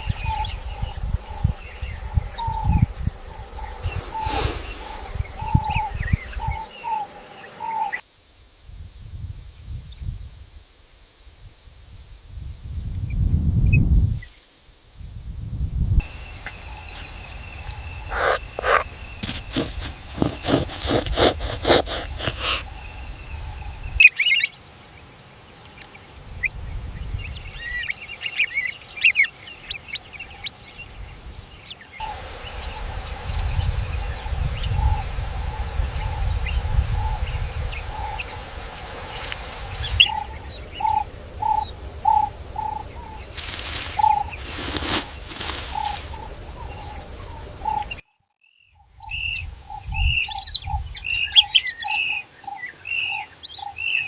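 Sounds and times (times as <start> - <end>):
bird calls: 0.0 - 8.0, 16.0 - 24.6, 25.6 - 54.0
high insect trills: 0.0 - 54.0.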